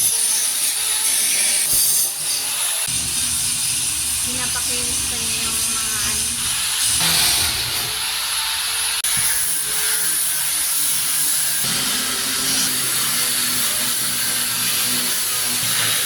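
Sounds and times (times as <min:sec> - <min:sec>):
power sander whining: 0:02.8 - 0:16.0.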